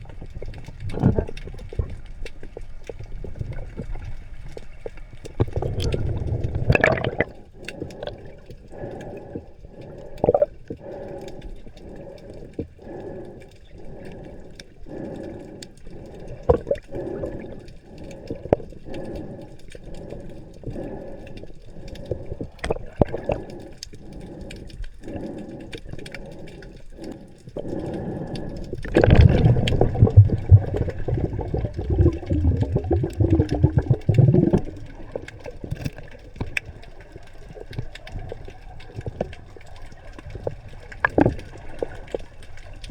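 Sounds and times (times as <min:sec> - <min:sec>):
low bubbling rush: 0:00.0 - 0:42.9
regular underwater throb: 0:00.0 - 0:42.9.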